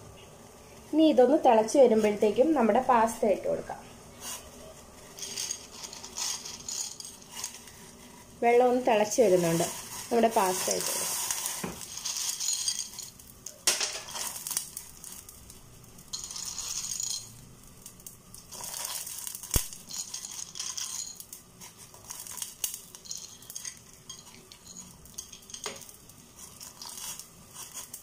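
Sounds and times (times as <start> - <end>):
water boiling and splashing: 0.3 - 28.0.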